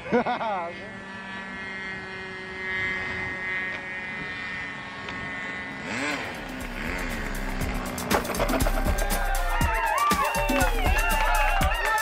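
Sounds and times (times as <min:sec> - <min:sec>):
model airplane motor buzzing: 0:00.0 - 0:12.0.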